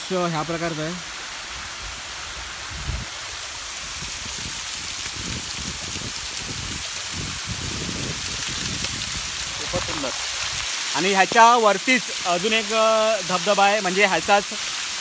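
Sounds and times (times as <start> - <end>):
waterfall splashing: 0.0 - 15.0.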